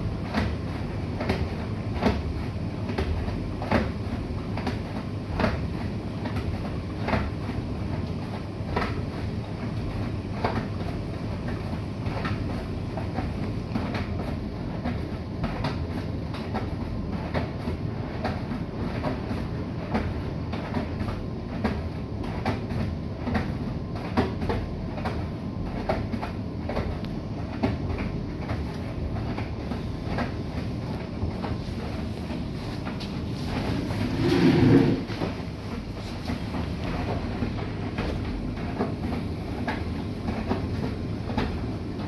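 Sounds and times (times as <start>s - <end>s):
washing machine drum rumbling: 0.0s - 42.0s.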